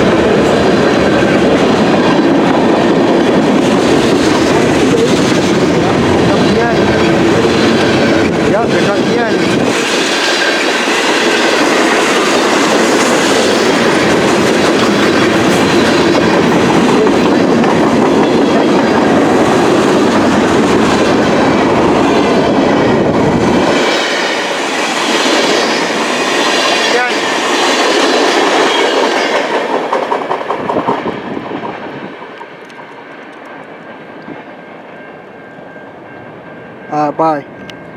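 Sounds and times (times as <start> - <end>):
wheels clacking on rail joints: 0.0 - 33.9
freight train rumbling past: 0.0 - 37.9.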